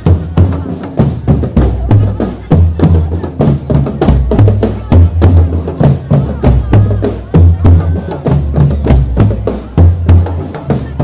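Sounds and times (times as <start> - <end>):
marching drum band playing: 0.0 - 11.0.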